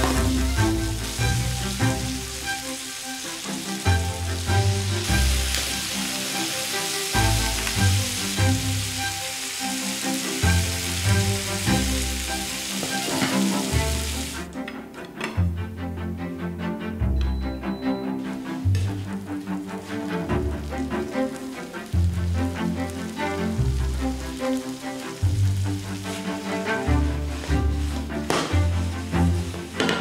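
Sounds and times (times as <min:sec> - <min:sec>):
food sizzling in a frying pan: 0:00.0 - 0:14.5, 0:18.9 - 0:30.0
background music: 0:00.0 - 0:30.0.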